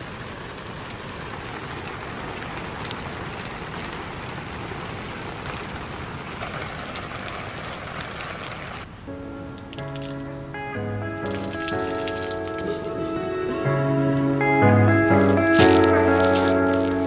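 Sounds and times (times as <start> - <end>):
steady rain hiss: 0.0 - 14.5.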